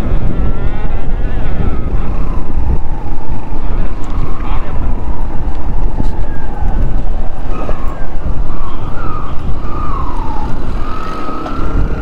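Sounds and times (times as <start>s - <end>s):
motorcycle engines whining: 0.0s - 12.0s
wind rumble on microphone: 0.0s - 12.0s.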